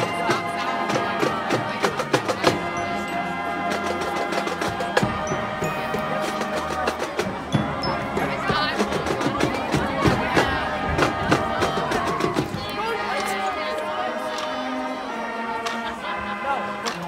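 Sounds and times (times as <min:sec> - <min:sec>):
brass holding chords: 0:00.0 - 0:12.3, 0:13.0 - 0:17.0.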